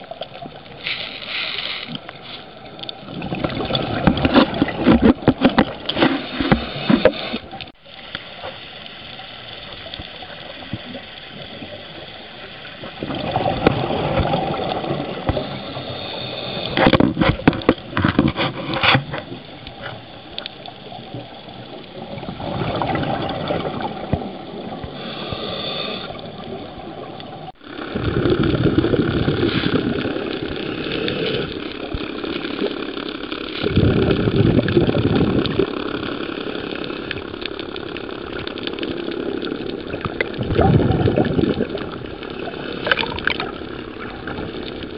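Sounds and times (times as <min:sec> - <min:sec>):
underwater regulator bubbles: 0:00.0 - 0:07.7, 0:12.8 - 0:20.1, 0:20.9 - 0:44.9
sharp clicks underwater: 0:00.0 - 0:08.3, 0:13.0 - 0:26.6, 0:27.2 - 0:44.9.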